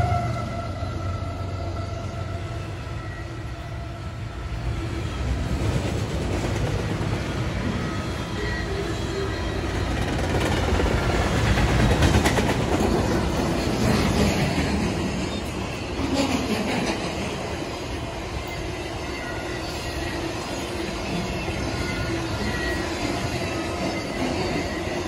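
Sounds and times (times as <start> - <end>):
steel wheels rumbling on rail: 0.0 - 25.0.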